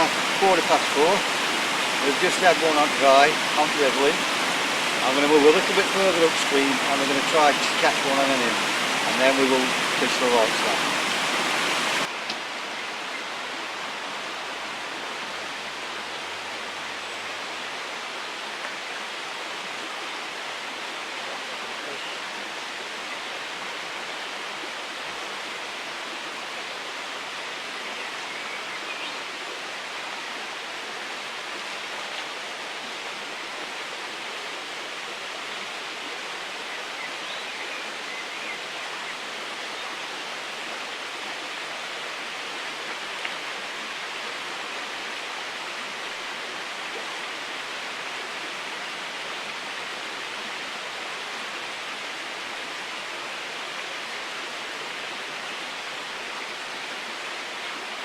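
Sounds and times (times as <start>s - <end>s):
river water flowing over stones: 0.0s - 58.0s.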